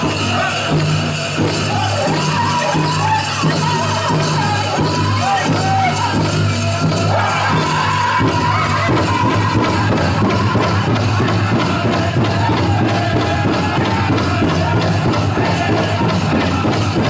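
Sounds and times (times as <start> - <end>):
group singing together: 0.0 - 17.0
large drum beating: 0.0 - 17.0.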